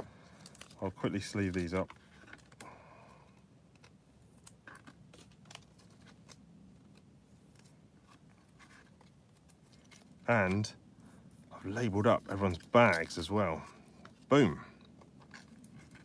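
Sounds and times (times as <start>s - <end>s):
trading cards clicking and rustling: 0.0s - 10.7s, 11.6s - 16.0s.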